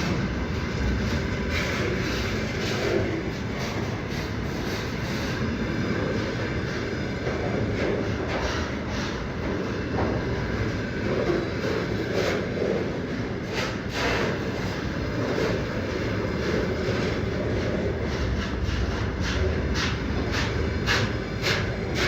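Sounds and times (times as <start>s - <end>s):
freight train wheels rumbling: 0.0s - 22.0s
wheels clacking on rail joints: 0.0s - 22.0s.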